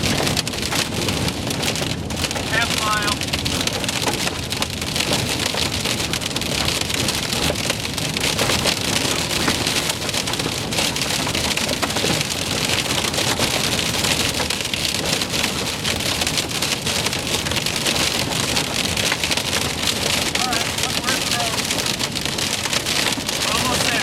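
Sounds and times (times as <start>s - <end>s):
heavy rain and hail: 0.0s - 24.0s.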